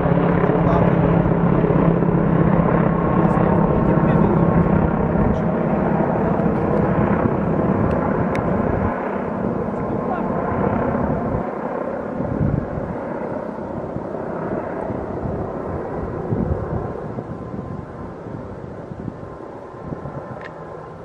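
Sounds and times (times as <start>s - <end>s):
helicopter rotors and engines rumbling: 0.0s - 21.0s
wind on microphone: 0.0s - 21.0s.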